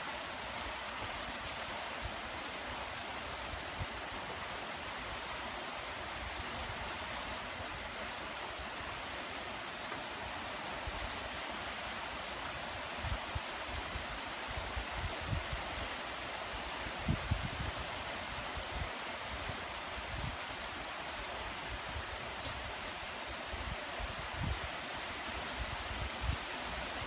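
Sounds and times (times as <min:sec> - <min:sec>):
light rain hissing: 0:00.0 - 0:27.0.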